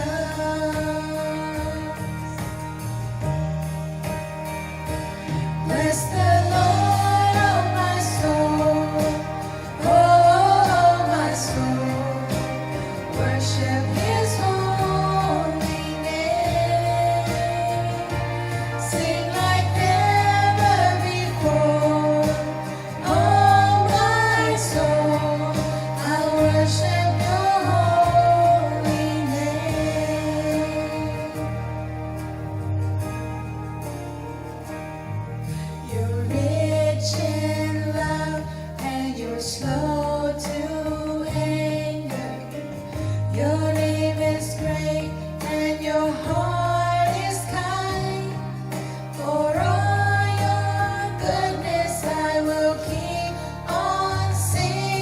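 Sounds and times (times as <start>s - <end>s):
person singing: 0.0s - 3.0s, 5.3s - 32.3s, 35.7s - 55.0s
band accompaniment: 0.0s - 55.0s
bass line: 0.0s - 55.0s.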